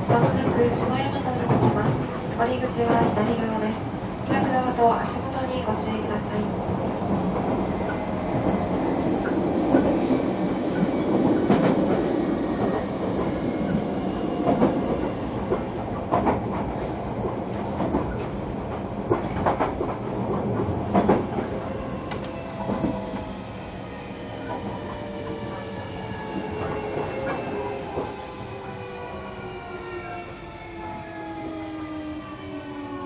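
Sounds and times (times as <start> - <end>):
train wheel and track rumble: 0.0 - 33.0.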